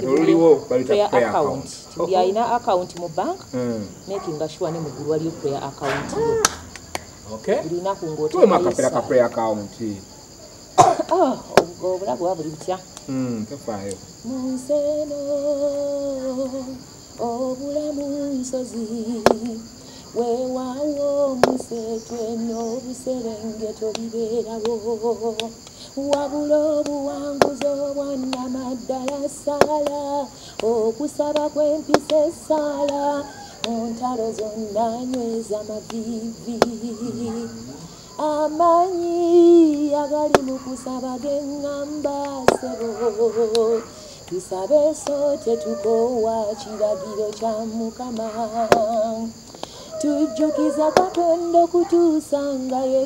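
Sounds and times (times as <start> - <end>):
woman singing unaccompanied: 0.0 - 6.8, 10.8 - 13.0, 14.1 - 53.0.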